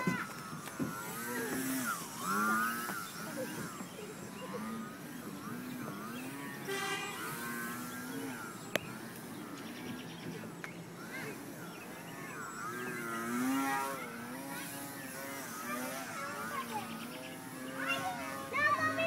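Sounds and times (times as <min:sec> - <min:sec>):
model airplane motor whining: 0:00.0 - 0:19.0.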